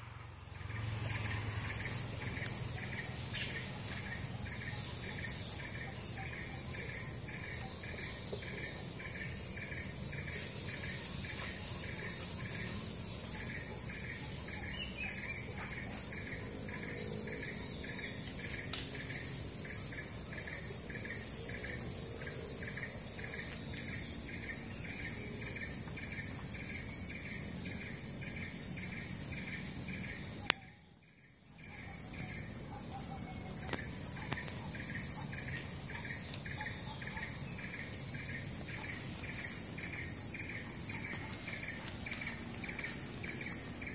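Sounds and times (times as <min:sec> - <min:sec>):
insects buzzing in chorus: 0:00.0 - 0:43.9.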